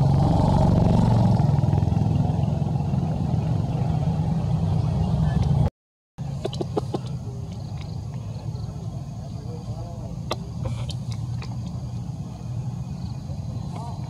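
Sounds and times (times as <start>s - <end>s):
motor vehicle engine rumble: 0.0s - 14.0s.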